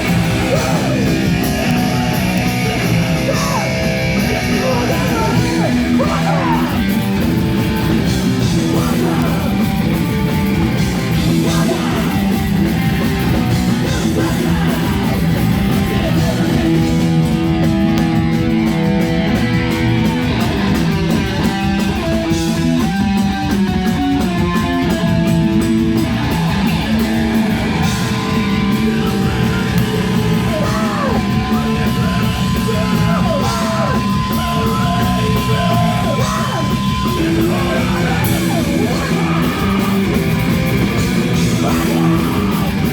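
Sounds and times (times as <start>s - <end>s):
distorted guitars: 0.0s - 42.9s
pounding drums: 0.0s - 42.9s
yelled vocals: 0.0s - 42.9s.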